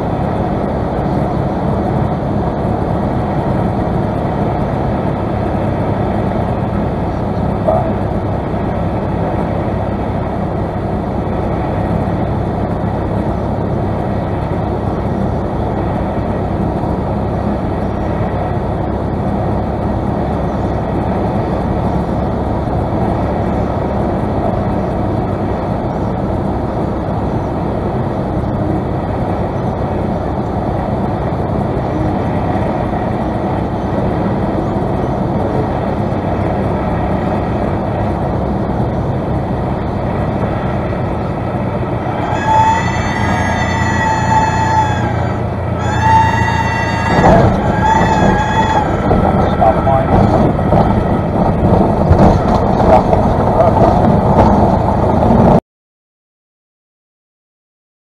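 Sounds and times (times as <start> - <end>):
airplane engine idling: 0.0 - 55.6
cockpit airflow noise: 0.0 - 55.6.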